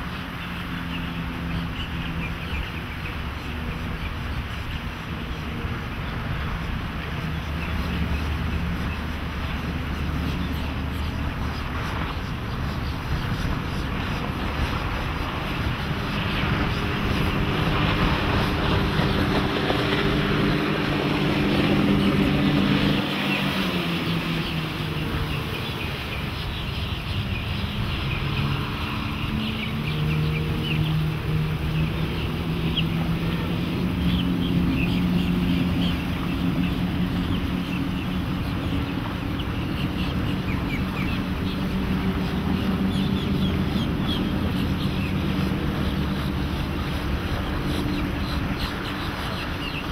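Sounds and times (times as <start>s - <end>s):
outboard engines running: 0.0s - 49.9s
wind and water rushing: 0.0s - 49.9s.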